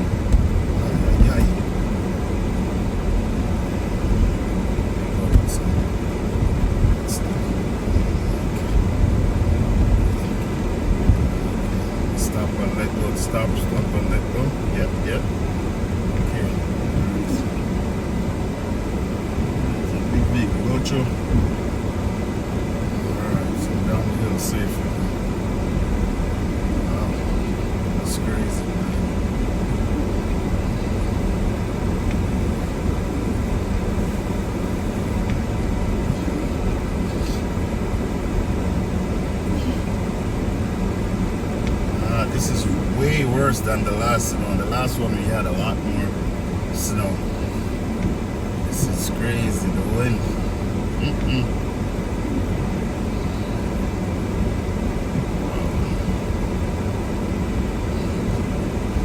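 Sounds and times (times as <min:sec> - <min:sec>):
car engine and tyre noise: 0:00.0 - 0:59.0
strong wind against car: 0:00.0 - 0:59.0.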